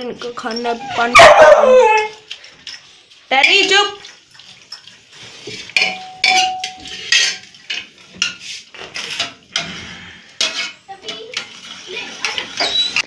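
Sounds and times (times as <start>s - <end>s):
metal bowls clanking: 0.3s - 13.0s.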